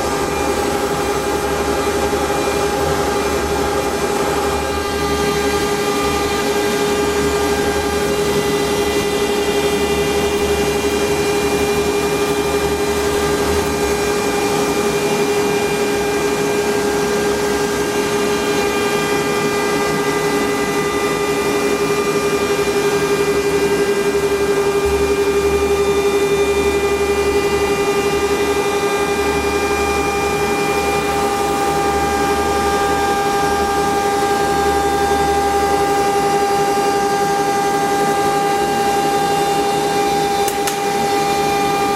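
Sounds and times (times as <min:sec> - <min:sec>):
machine low hum: 0:00.0 - 0:41.9
router spindle whine: 0:00.0 - 0:41.9.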